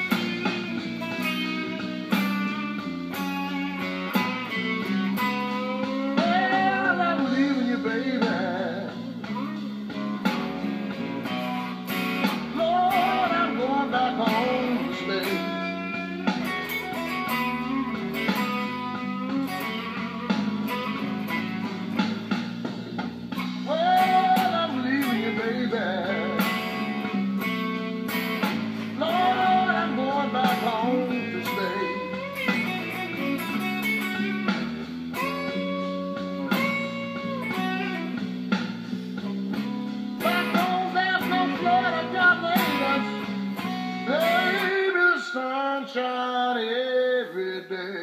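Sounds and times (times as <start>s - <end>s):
bass: 0.0s - 45.3s
drums: 0.0s - 48.0s
electric guitar blues lead: 0.0s - 48.0s.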